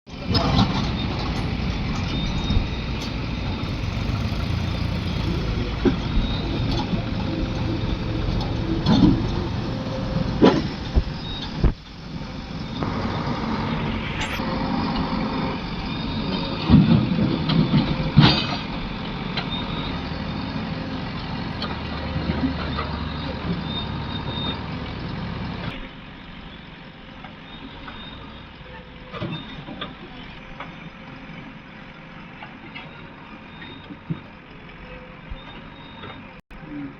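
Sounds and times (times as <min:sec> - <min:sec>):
heavy machinery diesel engine: 0:00.1 - 0:36.9.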